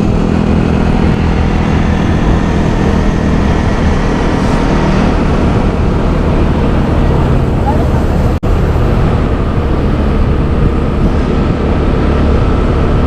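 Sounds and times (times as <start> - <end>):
motorbike engine running: 0.0 - 13.0
wind and road noise: 0.0 - 13.0.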